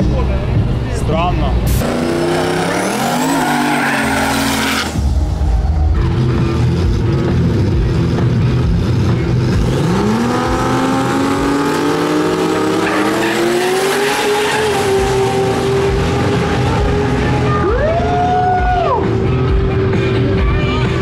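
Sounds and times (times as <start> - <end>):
racing car engine accelerating: 1.7 - 20.4.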